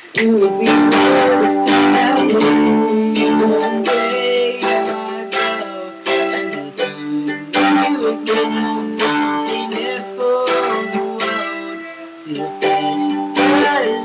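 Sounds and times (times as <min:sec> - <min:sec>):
strummed acoustic string instrument: 0:00.0 - 0:14.0.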